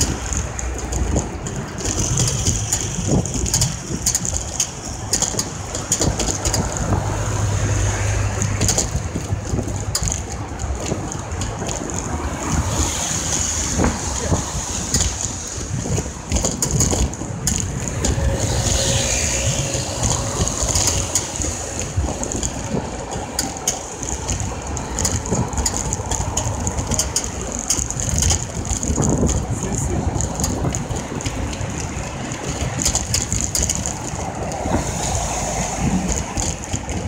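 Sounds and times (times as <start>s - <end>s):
knocks and rattles on microphone: 0.0s - 37.0s
vehicle road and wind rumble: 0.0s - 37.0s.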